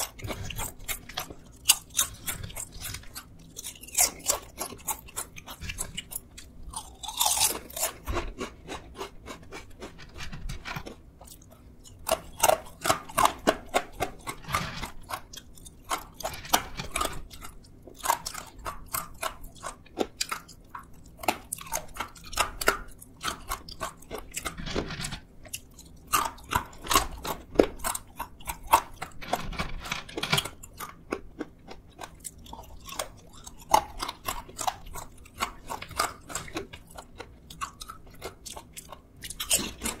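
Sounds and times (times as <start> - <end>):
chewing crisp chips: 0.0 - 40.0.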